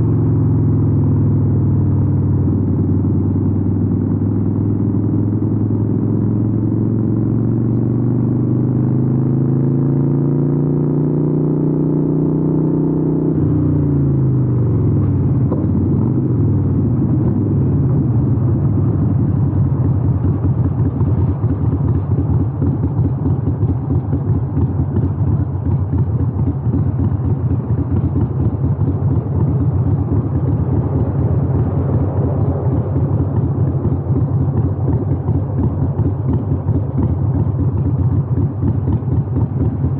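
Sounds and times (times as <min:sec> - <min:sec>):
motorcycle engine revving and rumbling: 0:00.0 - 0:39.9.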